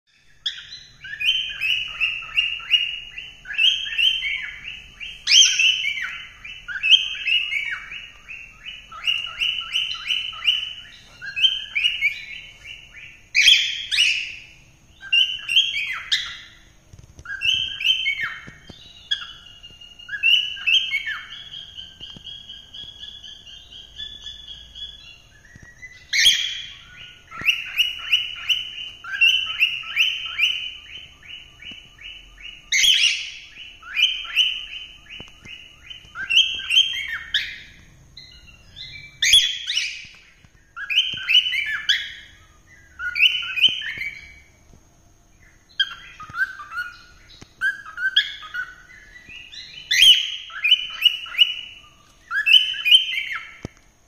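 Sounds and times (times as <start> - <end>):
loud sharp bird calls: 0.1 - 44.6, 45.3 - 53.9
cockatiels chirping: 0.2 - 44.5, 45.3 - 53.8.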